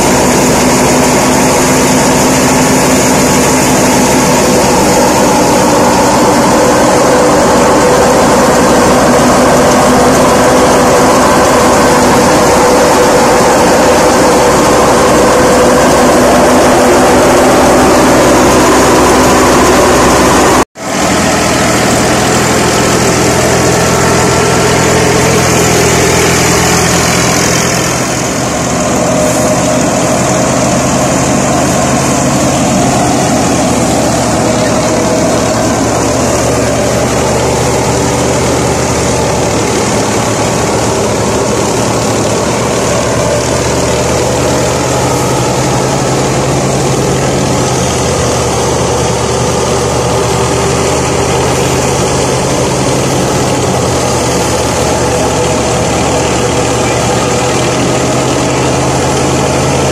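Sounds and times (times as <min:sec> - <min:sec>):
threshing drum running: 0:00.0 - 0:59.9
tractor engine drone: 0:00.0 - 0:59.9.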